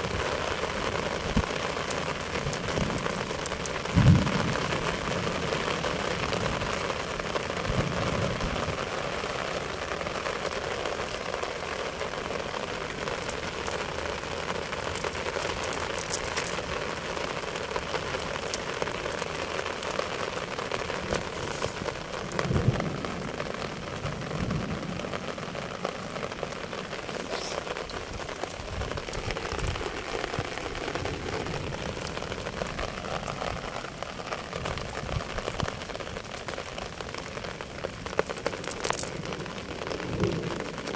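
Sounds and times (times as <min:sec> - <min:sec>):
rain falling on wet grass: 0:00.0 - 0:40.9.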